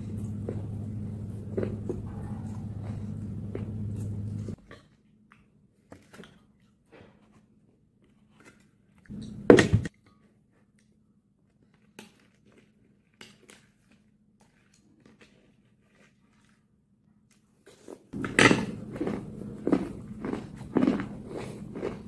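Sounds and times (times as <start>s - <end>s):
soft chewing: 0.0s - 7.4s, 9.9s - 22.0s.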